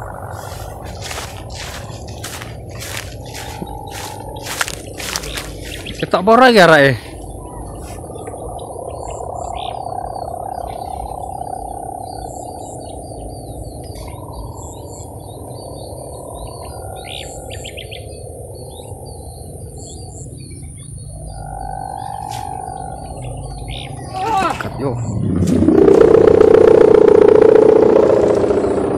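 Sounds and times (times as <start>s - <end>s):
kite hummer humming: 0.0s - 28.9s
small birds chirping: 0.0s - 28.9s
wind rumbling on microphone: 0.0s - 28.9s.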